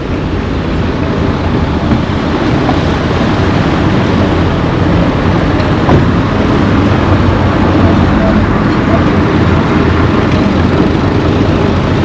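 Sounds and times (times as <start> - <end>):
tyre and road noise: 0.0 - 12.0
vehicle engines running: 0.0 - 12.0.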